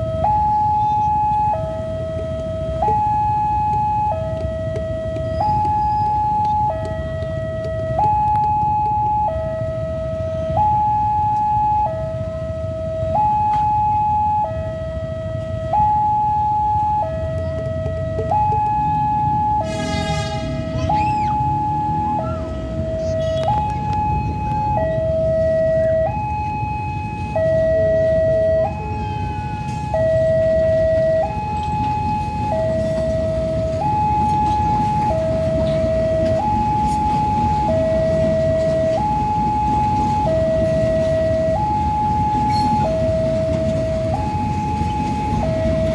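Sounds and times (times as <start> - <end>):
low traffic rumble: 0.0 - 45.9
two-tone level-crossing alarm: 0.0 - 45.9.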